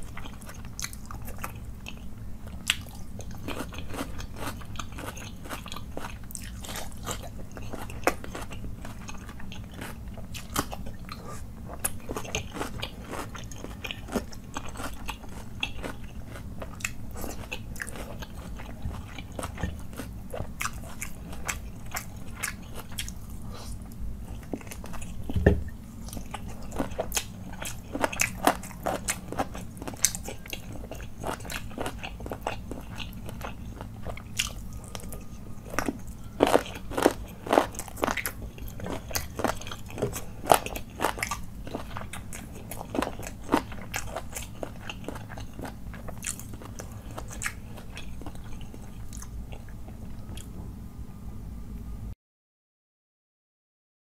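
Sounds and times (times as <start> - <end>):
man chewing food: 0.0 - 51.2
low steady hum: 0.0 - 52.2.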